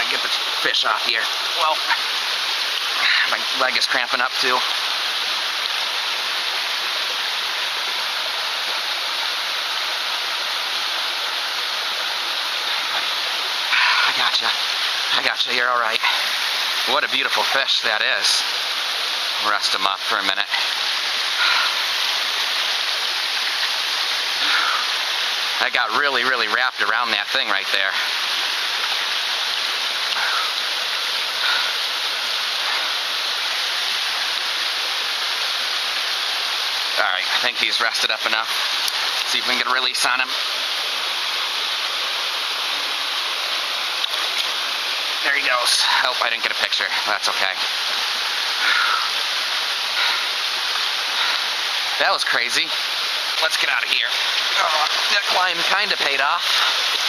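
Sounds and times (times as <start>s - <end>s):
rushing mountain stream: 0.0s - 57.0s.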